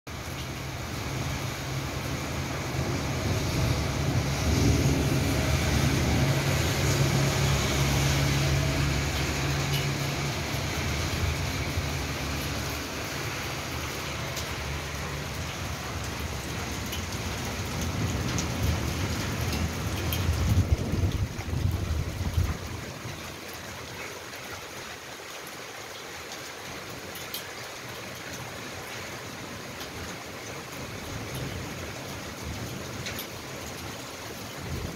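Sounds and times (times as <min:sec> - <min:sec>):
rain on wet road: 0:00.1 - 0:34.9.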